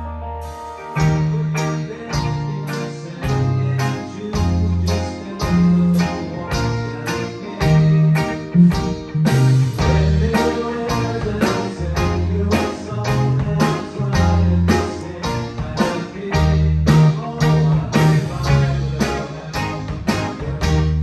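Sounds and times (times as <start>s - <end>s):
bass line: 0.0s - 21.0s
guitar: 0.0s - 21.0s.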